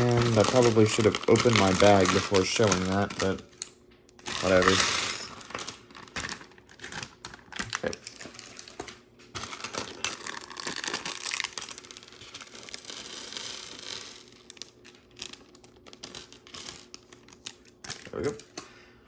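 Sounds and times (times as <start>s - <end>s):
plastic bag tearing and crinkling: 0.0s - 3.5s, 4.3s - 16.6s
plastic pieces clicking: 0.0s - 18.6s.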